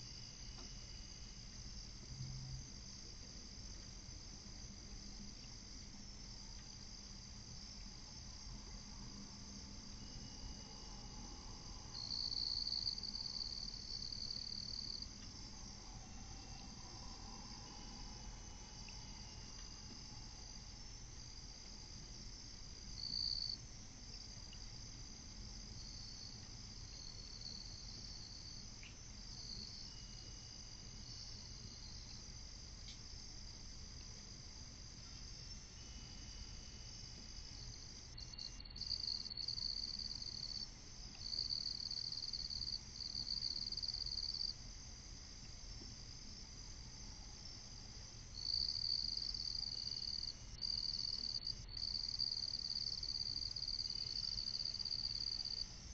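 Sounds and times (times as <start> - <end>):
low steady hum: 0.0 - 55.9
night insects trilling: 0.0 - 55.9.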